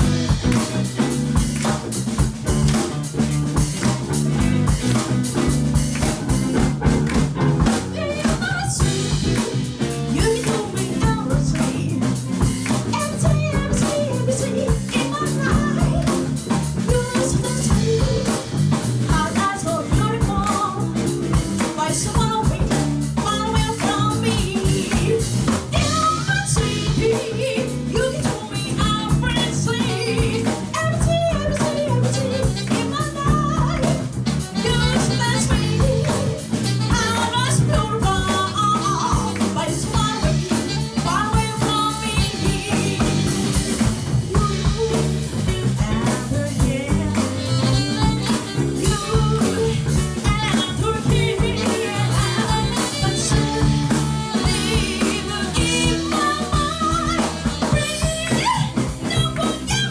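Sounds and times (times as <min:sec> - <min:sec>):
drum kit: 0:00.0 - 0:59.9
live band playing: 0:00.0 - 0:59.9
steady bass: 0:00.0 - 0:59.9
person singing: 0:07.7 - 0:59.9.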